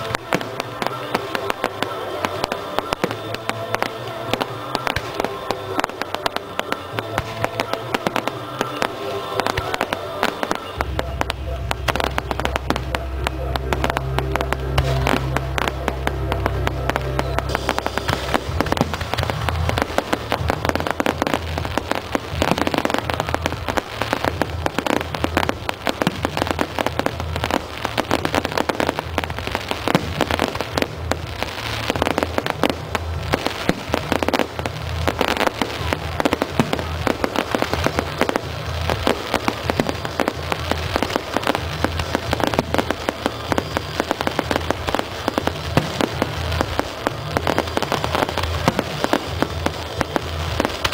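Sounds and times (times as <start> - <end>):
fireworks crackling and banging: 0.0 - 50.9.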